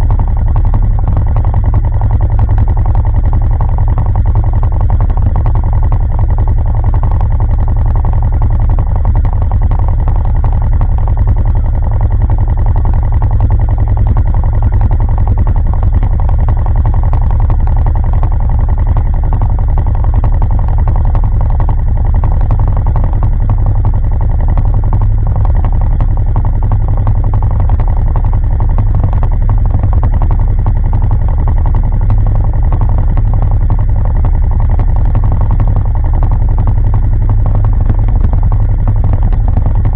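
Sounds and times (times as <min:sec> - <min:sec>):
atv engine idling: 0:00.0 - 0:39.9.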